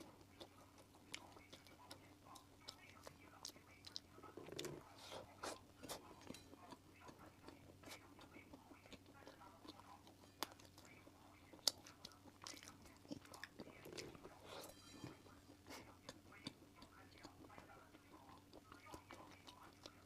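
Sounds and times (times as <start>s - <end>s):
wet chewing and biting: 0.0s - 20.0s.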